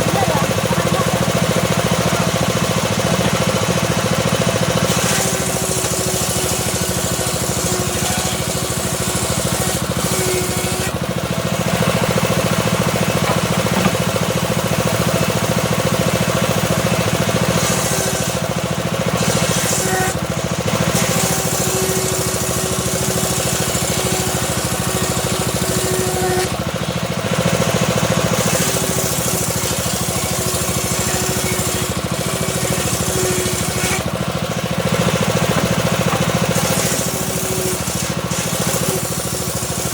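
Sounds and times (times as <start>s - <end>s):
engine-driven circular saw cutting log: 0.0s - 39.9s.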